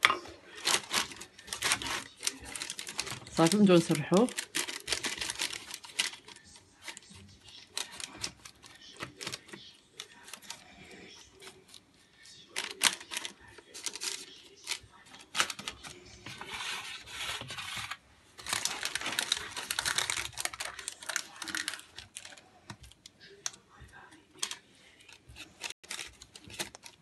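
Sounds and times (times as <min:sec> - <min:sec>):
spoon scraping and rustling: 0:00.0 - 0:22.5.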